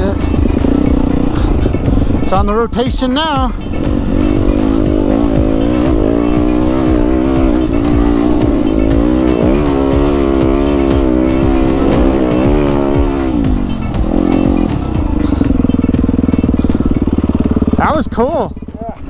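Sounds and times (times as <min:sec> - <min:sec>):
dirt bike engine revving: 0:00.0 - 0:18.7.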